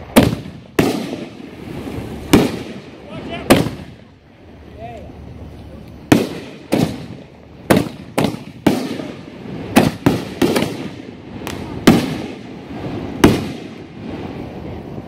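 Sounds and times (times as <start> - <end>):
fireworks bangs with echo: 0.0 - 4.1, 6.1 - 14.8.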